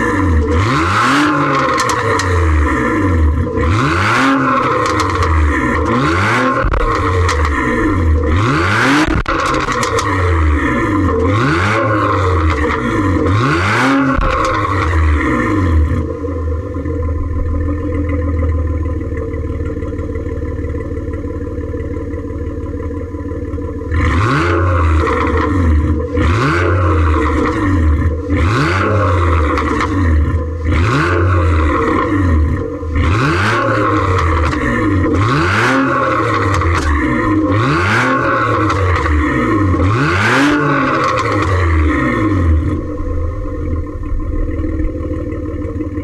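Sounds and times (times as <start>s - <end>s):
car engine revving and idling: 0.0s - 46.0s.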